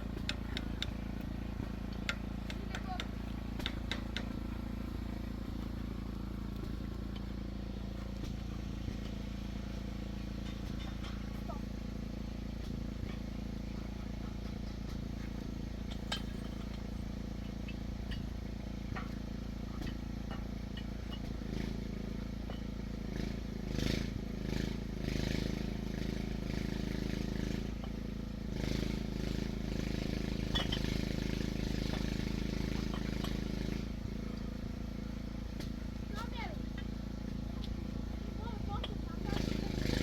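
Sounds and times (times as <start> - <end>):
engine humming: 0.0 - 40.0.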